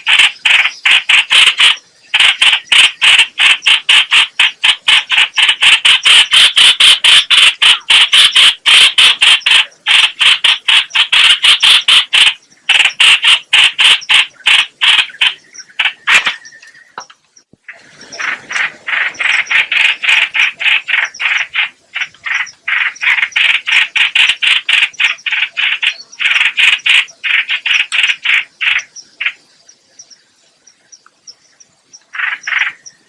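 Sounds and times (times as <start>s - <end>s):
bird harsh chattering calls: 0.0s - 17.1s, 17.7s - 29.5s, 31.9s - 33.0s.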